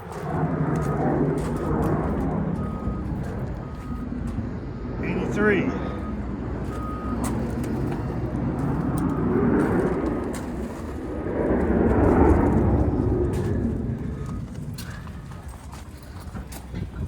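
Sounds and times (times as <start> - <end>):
jet aircraft passing overhead: 0.0 - 17.0.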